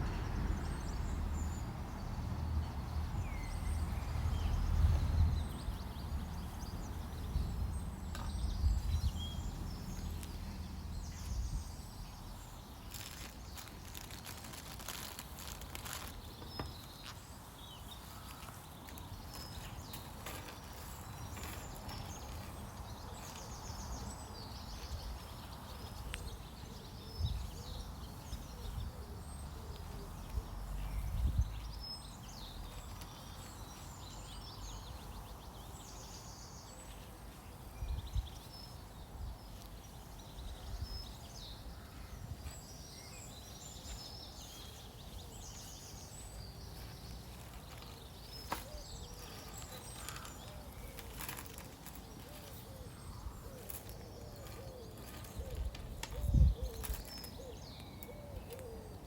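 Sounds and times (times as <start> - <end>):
bird chirps: 3.2 - 59.0.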